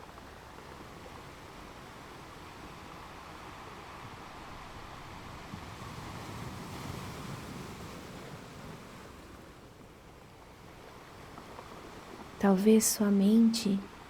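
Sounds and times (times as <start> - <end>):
ocean waves washing on shore: 0.0 - 14.0.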